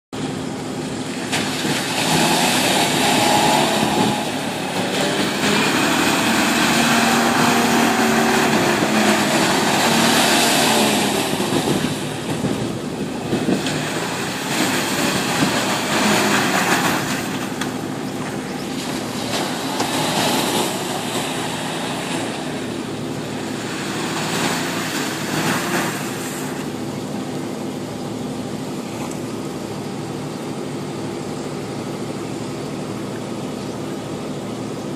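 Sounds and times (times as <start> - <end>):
engine labouring and revving: 0.1 - 34.9
tyres splashing mud and water: 0.2 - 34.9.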